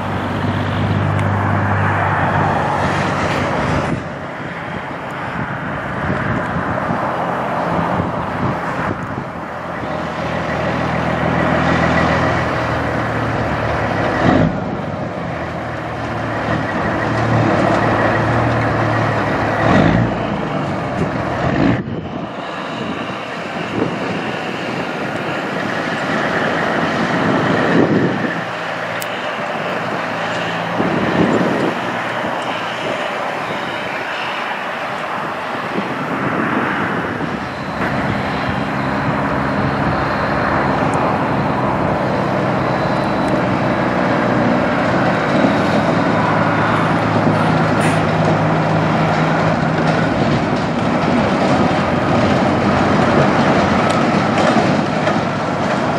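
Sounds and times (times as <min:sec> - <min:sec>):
diesel truck engines: 0:00.0 - 0:55.9.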